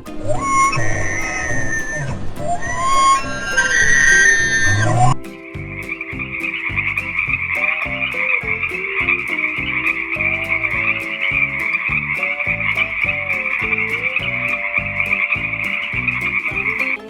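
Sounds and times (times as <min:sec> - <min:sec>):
rapid low pulses: 0:00.0 - 0:17.0
frogs croaking: 0:00.4 - 0:17.0.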